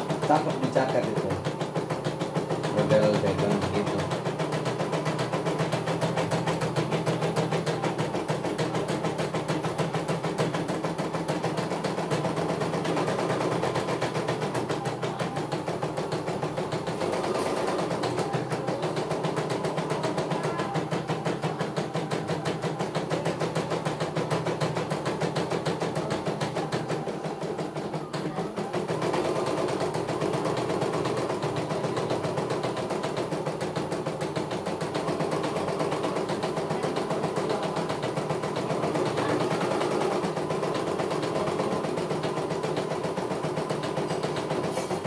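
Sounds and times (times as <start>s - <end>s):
embroidery machine needle stitching: 0.0s - 45.0s.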